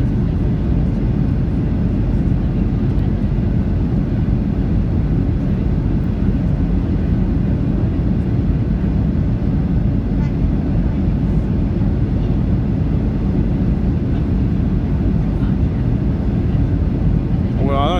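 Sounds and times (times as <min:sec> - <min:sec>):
airplane cabin airflow roar: 0:00.0 - 0:17.9.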